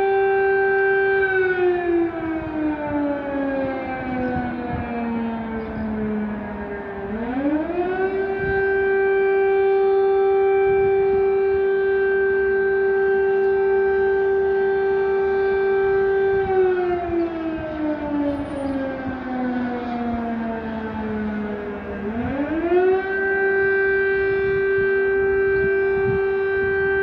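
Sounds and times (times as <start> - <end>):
air raid siren: 0.0 - 27.0.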